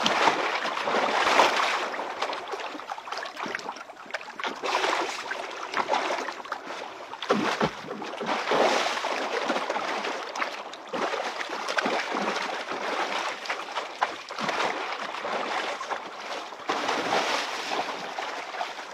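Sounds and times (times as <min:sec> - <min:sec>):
person swimming splashing: 0:00.0 - 0:18.9.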